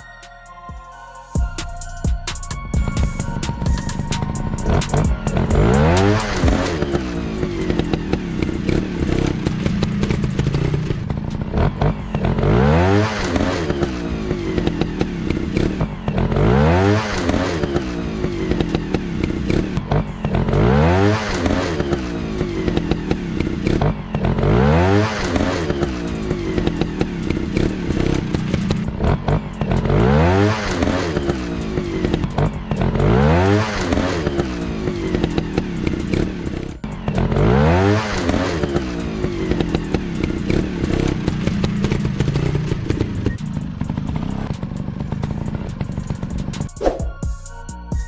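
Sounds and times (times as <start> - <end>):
dirt bike engine revving: 2.8 - 47.1.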